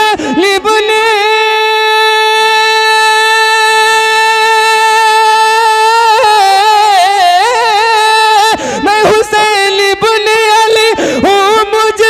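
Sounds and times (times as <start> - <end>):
man singing long note: 0.0 - 12.0.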